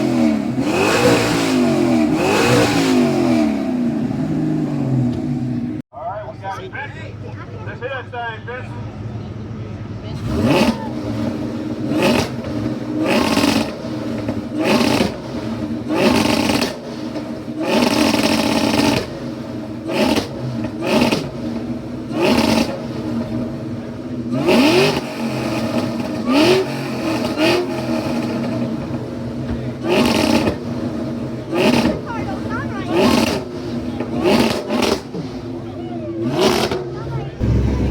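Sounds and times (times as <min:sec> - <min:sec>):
car engine revving: 0:00.0 - 0:05.8, 0:10.1 - 0:37.9.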